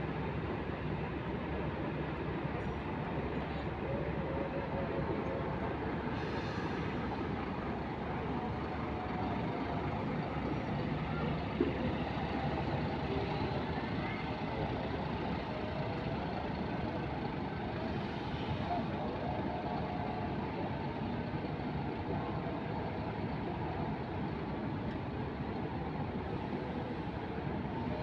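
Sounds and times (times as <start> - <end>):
bus diesel engine: 0.0 - 28.0.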